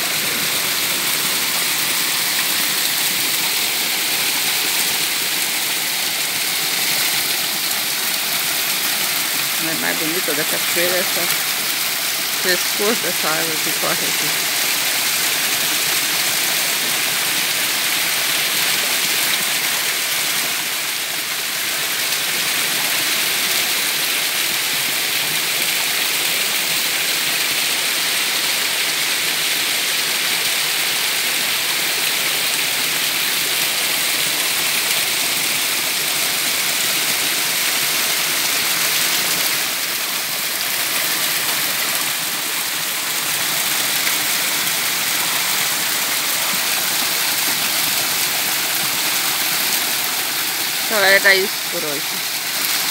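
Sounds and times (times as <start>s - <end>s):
small waterfall splashing: 0.0s - 52.9s.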